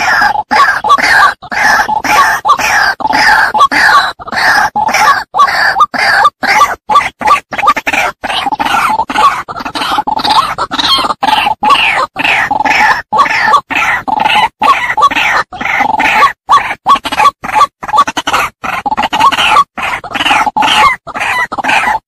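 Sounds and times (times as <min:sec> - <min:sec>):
bird harsh croaking calls: 0:00.0 - 0:22.0.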